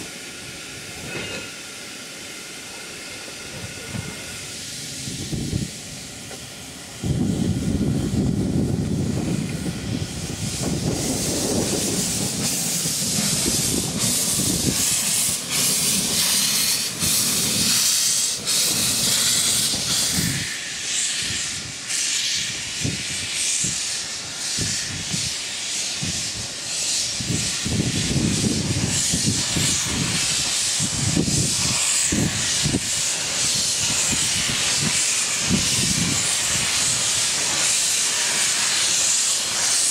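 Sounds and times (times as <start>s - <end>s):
steam hissing: 0.0s - 39.9s
steam locomotive chuffs and knocks: 0.0s - 39.9s.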